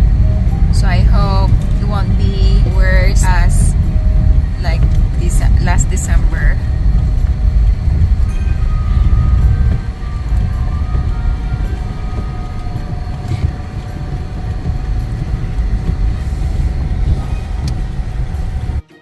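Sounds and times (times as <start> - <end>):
car driving on snowy road: 0.0 - 18.9.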